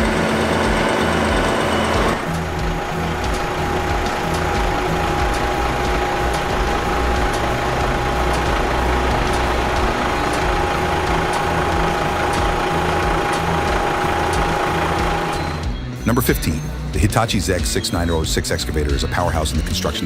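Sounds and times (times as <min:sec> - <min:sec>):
constant engine whine: 0:00.0 - 0:17.6
diesel engine idling: 0:00.0 - 0:19.5.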